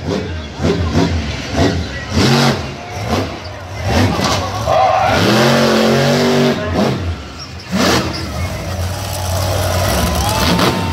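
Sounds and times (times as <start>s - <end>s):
truck engine revving: 0.0s - 10.9s.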